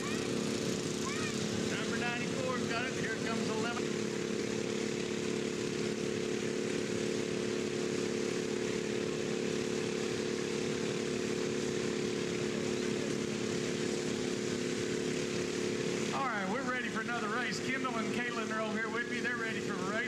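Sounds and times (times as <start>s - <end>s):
lawn mower engine droning: 0.0s - 20.0s.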